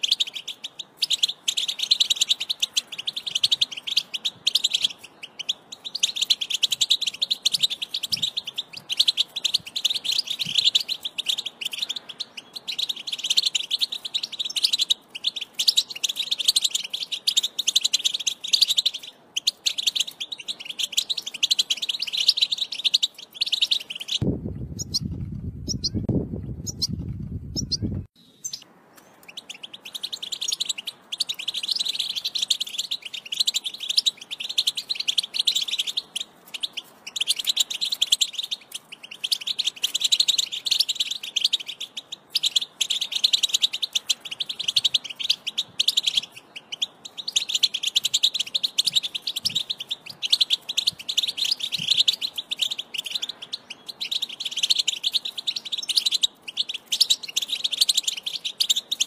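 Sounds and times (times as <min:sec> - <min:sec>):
goldfinch twittering song: 0:00.0 - 0:59.0.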